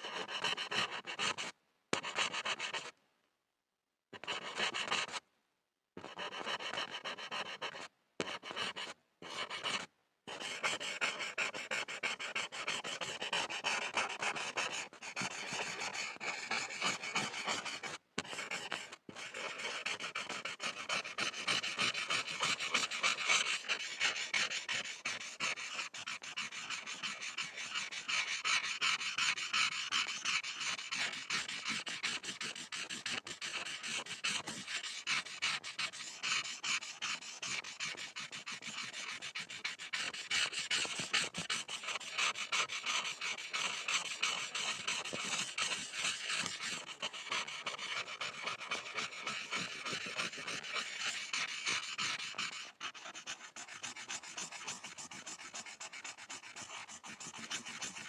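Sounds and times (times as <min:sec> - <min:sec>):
pencil scribbling on a board: 0:00.0 - 0:03.0, 0:04.2 - 0:05.2, 0:06.0 - 0:58.0.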